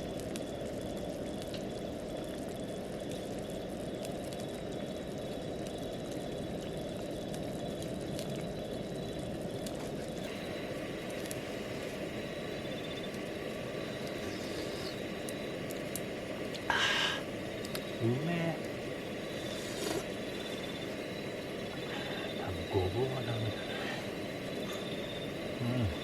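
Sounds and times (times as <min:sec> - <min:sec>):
camp stove burner rushing: 0:04.6 - 0:26.0.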